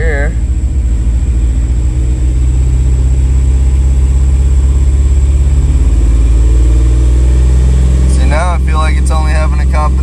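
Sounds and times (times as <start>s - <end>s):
car engine running under light throttle: 0.0s - 10.0s.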